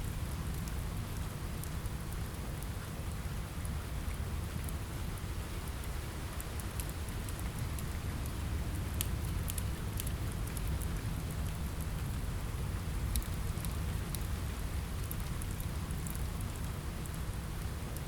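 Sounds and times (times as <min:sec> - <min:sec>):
rain on a window: 0:00.0 - 0:18.0
wood fire crackling and popping: 0:00.1 - 0:12.1, 0:13.0 - 0:18.0.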